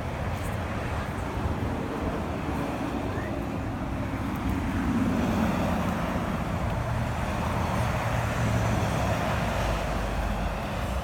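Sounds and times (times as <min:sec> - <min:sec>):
passing cars: 0:00.0 - 0:11.0.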